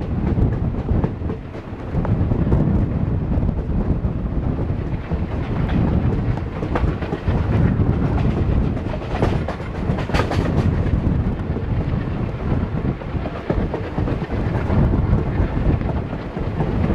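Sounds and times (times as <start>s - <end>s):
sharp train clatter: 0.0s - 16.9s
train coaches rumbling: 0.0s - 16.9s
wheels clicking over rail joints: 0.0s - 16.9s
wind on microphone: 0.0s - 16.9s.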